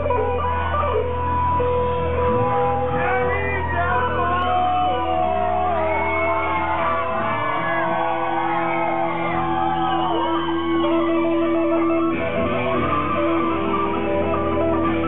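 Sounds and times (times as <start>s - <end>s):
audience shouting and whooping: 0.0s - 15.0s
live band playing: 0.0s - 15.0s.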